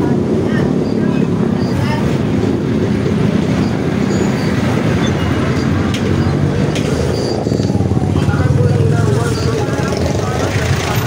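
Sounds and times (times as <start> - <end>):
motorcycle and scooter engines rumbling: 0.0 - 11.0.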